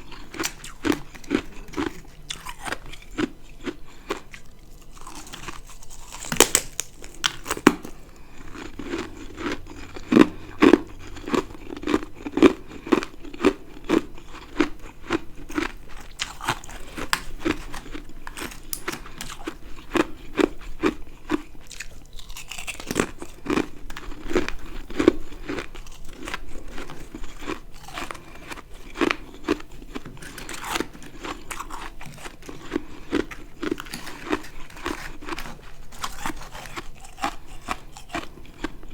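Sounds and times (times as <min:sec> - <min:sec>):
ice being bitten and chewed: 0:00.0 - 0:38.9.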